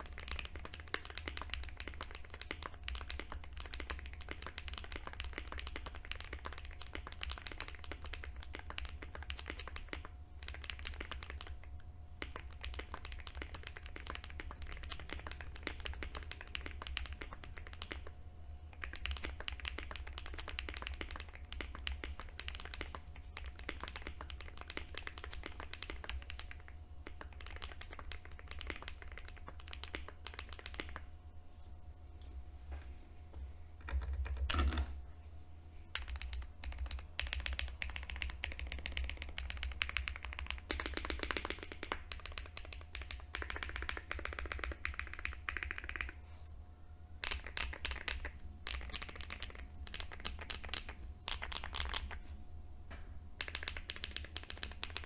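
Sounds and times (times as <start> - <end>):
fast typing on mechanical keyboard: 0.0 - 18.1, 18.7 - 31.0, 33.8 - 34.8, 35.9 - 46.2, 47.2 - 52.2, 53.4 - 55.0.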